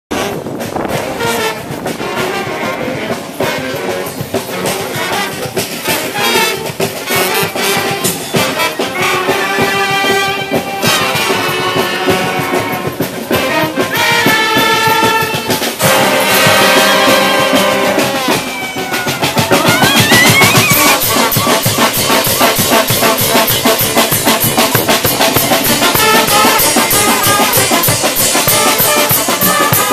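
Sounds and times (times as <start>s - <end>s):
drum beats: 0.1s - 29.9s
horns playing held chords: 0.1s - 29.9s.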